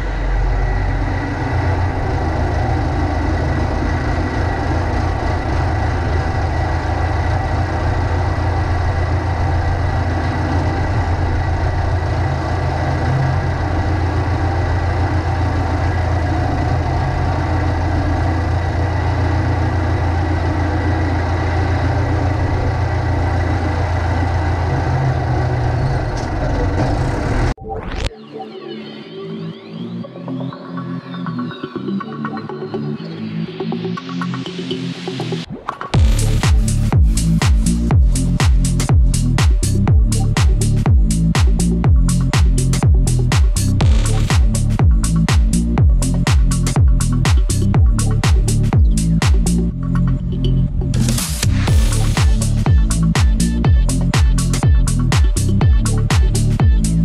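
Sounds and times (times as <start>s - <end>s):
diesel engine running: 0.0s - 27.6s, 33.2s - 57.0s.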